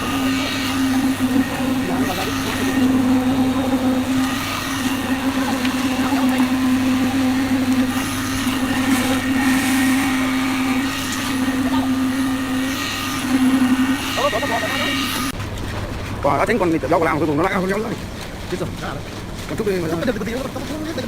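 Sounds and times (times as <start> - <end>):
concrete mixer running: 0.0 - 21.0.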